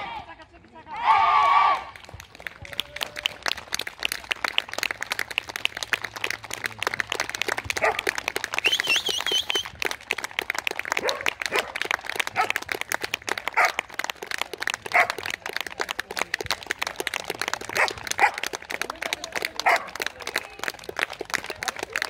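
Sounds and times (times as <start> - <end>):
applause: 1.7 - 22.0
fast hand clapping: 2.0 - 22.0.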